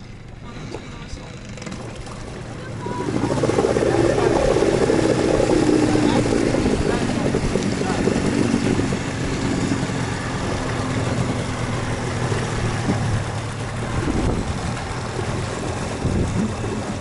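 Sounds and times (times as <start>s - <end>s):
motor engine humming: 0.0s - 17.0s.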